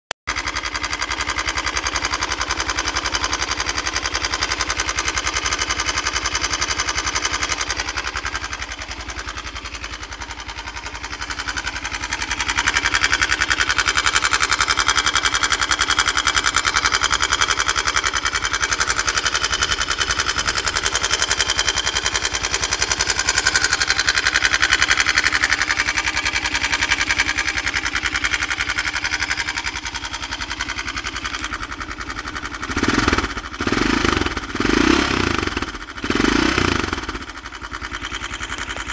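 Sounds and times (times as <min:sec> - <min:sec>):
motorcycle engine knocking: 0:00.3 - 0:38.9.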